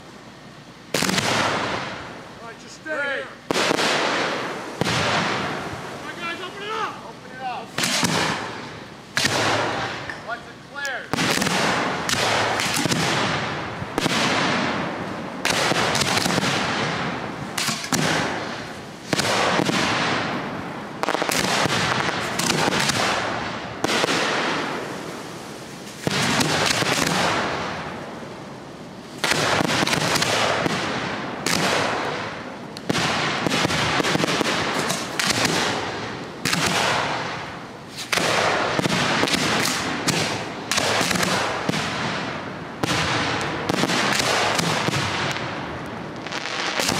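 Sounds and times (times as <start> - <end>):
firework shells bursting: 0.9 - 28.2, 29.0 - 46.9.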